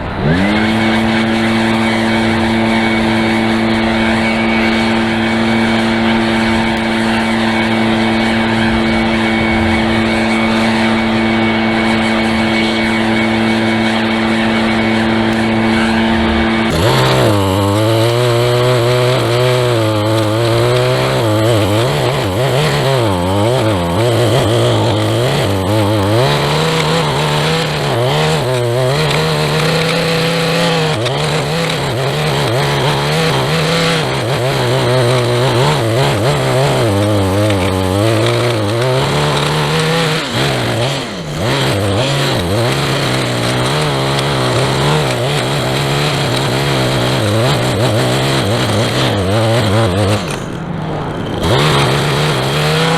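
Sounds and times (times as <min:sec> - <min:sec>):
two-stroke engine running: 0:00.0 - 0:52.9.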